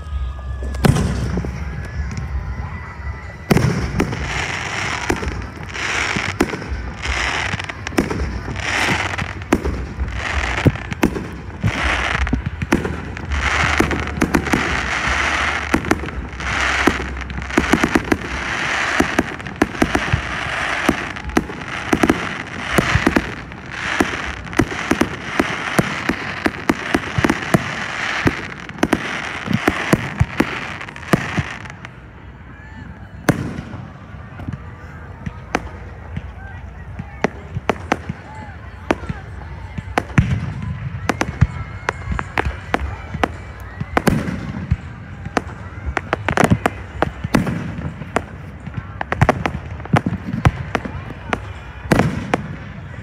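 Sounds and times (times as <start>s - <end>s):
crackle and hiss of fireworks stars: 0.0s - 53.0s
fireworks bursting: 0.0s - 53.0s.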